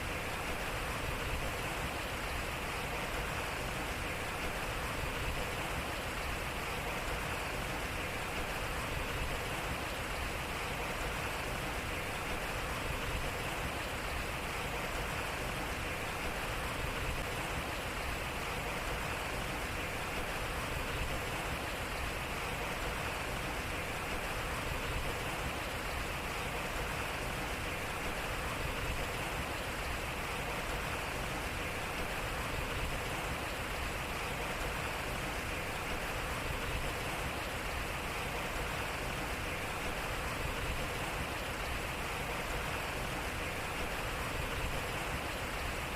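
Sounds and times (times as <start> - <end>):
water rushing at water wheel: 0.0 - 45.9.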